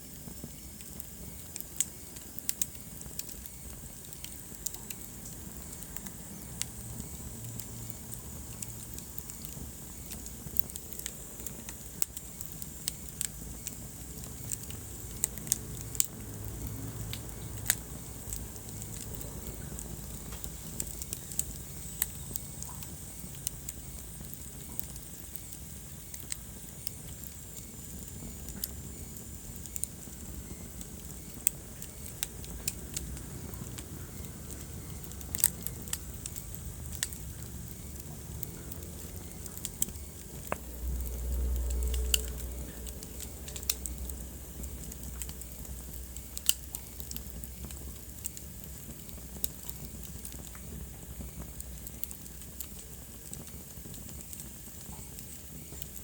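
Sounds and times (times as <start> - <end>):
low rumble and hiss of flames: 0.0 - 56.0
wood fire crackling and popping: 0.0 - 56.0.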